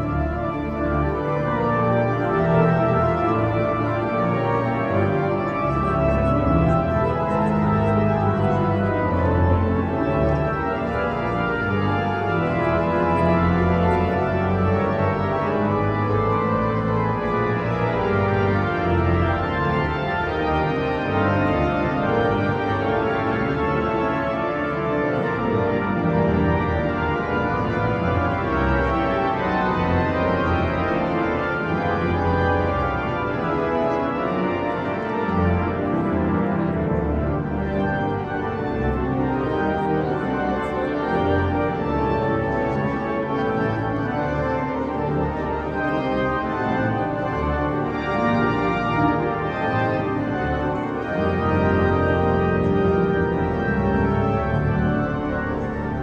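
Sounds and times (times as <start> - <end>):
pipe organ playing a hymn: 0.0 - 56.0.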